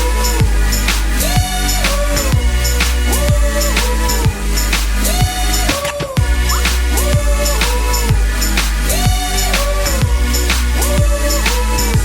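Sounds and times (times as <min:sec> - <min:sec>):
song with heavy bass and beat: 0:00.0 - 0:12.0.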